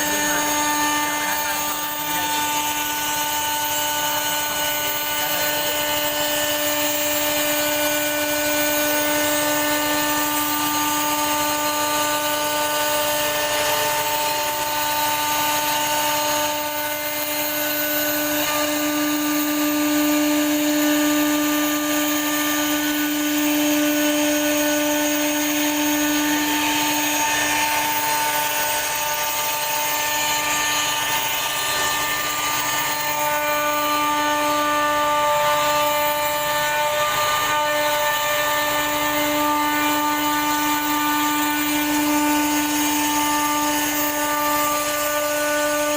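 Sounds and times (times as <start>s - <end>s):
bit cutting wood: 0.0s - 45.9s
router spindle whine: 0.0s - 45.9s.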